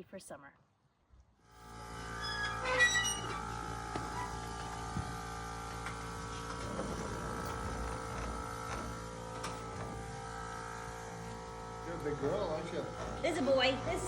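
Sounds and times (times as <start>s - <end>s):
electric clippers humming: 1.6s - 14.0s.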